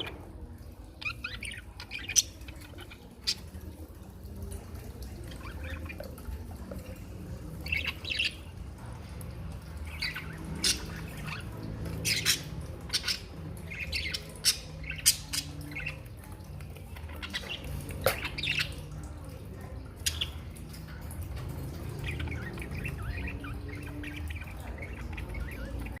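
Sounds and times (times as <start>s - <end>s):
birds chirping and squawking: 0.0s - 26.0s.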